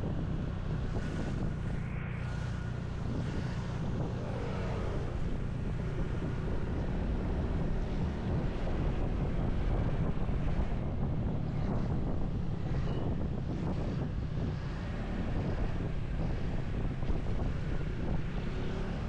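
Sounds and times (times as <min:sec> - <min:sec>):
road and engine noise: 0:00.0 - 0:19.0
wind rushing over microphone: 0:00.0 - 0:19.0.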